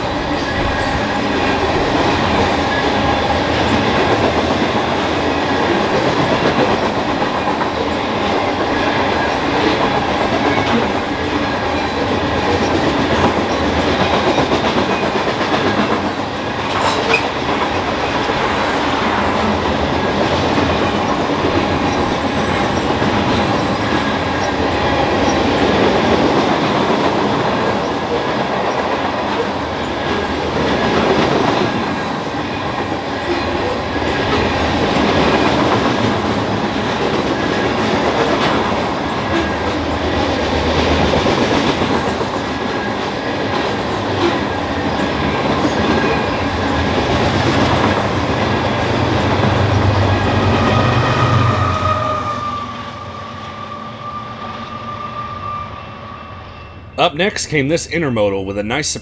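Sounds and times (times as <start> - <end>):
freight train wheels rushing: 0.0 - 57.4.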